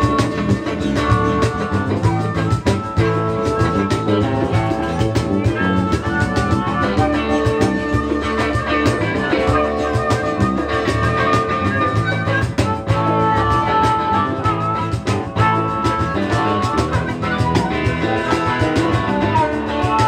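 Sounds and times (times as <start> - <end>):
harmonica held notes: 0.0 - 20.0
live rock band playing: 0.0 - 20.0.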